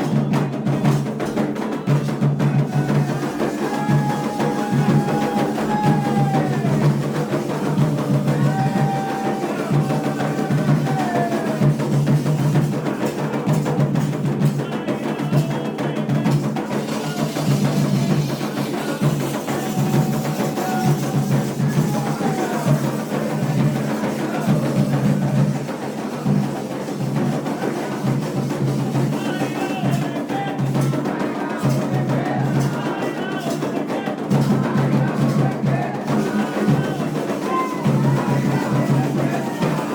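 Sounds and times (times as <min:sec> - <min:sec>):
hand drums beating: 0:00.0 - 0:39.9.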